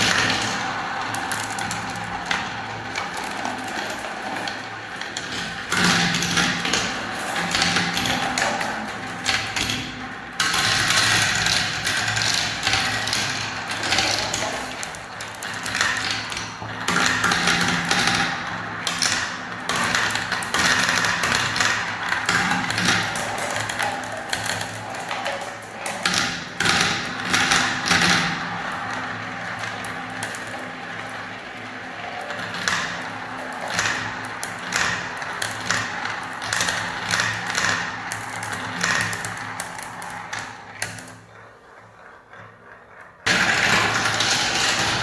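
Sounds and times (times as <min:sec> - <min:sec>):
balls rattling down marble run: 0:00.0 - 0:45.0.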